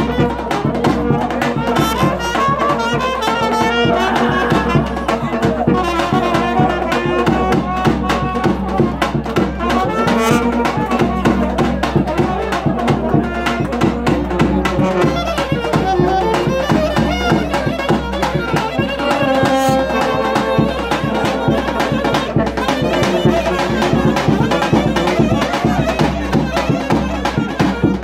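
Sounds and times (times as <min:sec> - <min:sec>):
bass drum beat: 0:00.0 - 0:28.0
brass horns playing: 0:00.0 - 0:28.0
saxophone leading: 0:00.0 - 0:28.0.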